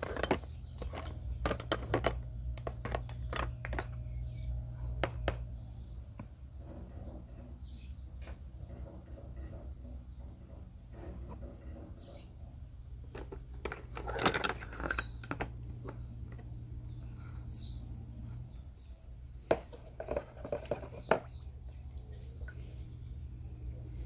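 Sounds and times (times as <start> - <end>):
bird chirping: 0.0 - 13.4, 14.0 - 24.0
low steady hum: 0.0 - 24.0.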